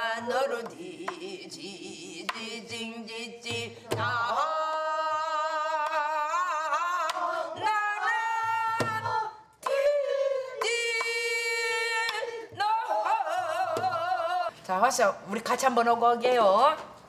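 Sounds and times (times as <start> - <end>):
person singing with vibrato: 0.0 - 14.6.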